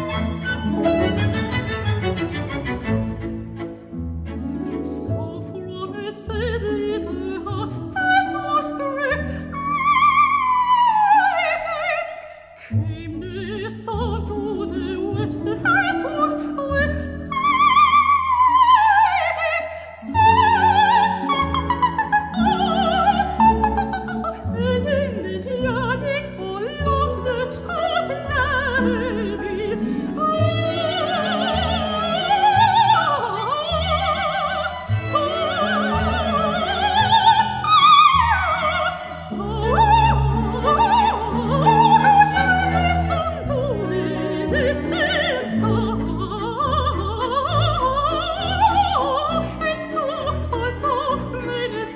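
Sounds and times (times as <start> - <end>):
symphony orchestra playing: 0.0 - 10.2, 20.2 - 51.9
soprano singing: 0.0 - 51.9.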